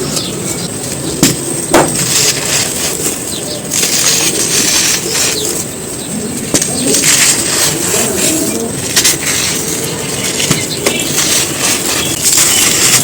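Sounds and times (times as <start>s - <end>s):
gritty balls crunching: 0.1s - 13.0s.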